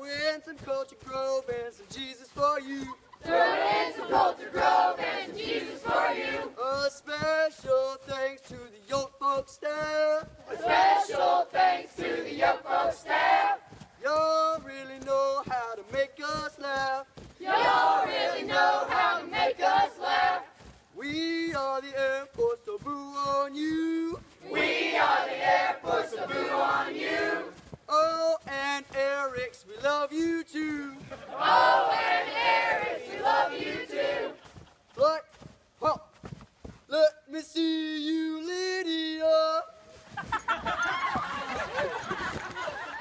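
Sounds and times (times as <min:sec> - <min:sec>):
group singing marching cadence: 0:00.0 - 0:36.0, 0:36.8 - 0:43.0.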